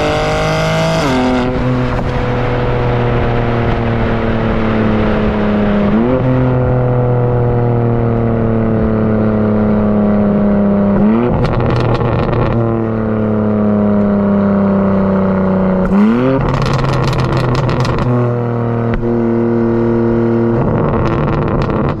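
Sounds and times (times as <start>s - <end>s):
exhaust crackles and pops: 0.0s - 14.4s, 15.0s - 22.0s
car engine revving on overrun: 0.0s - 22.0s.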